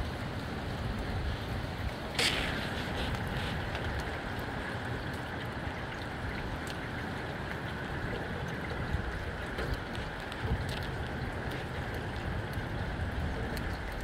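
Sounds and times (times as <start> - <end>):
gusty wind: 0.0 - 14.0
steady rain falling: 0.0 - 14.0.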